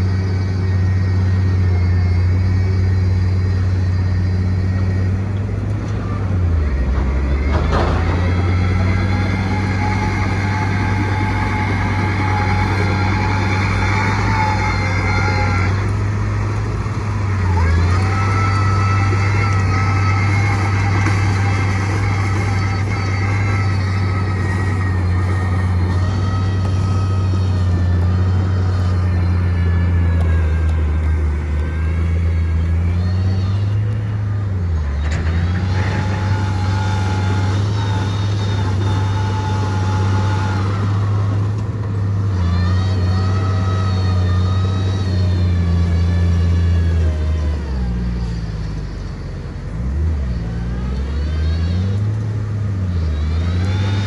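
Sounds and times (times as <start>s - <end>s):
heavy diesel engine droning: 0.0s - 54.0s
high whining tones: 0.0s - 54.0s.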